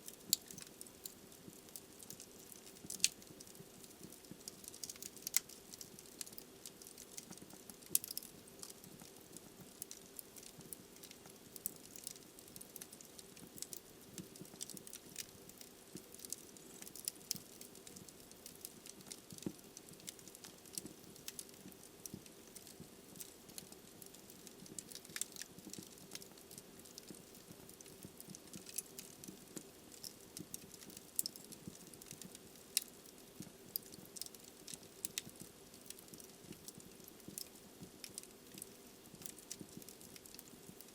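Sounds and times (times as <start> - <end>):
logs crackling and popping: 0.0 - 40.9
soft fire hiss: 0.0 - 40.9.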